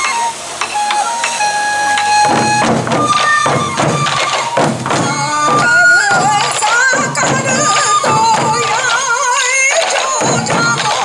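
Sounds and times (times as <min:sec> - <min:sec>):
bamboo flute: 0:00.0 - 0:11.0
taiko drums beating: 0:00.6 - 0:11.0.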